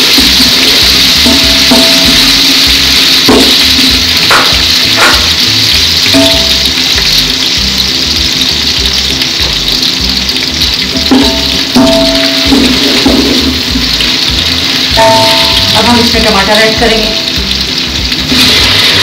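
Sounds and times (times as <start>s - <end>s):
background music: 0.0s - 19.0s
onions sizzling in hot oil: 0.0s - 19.0s.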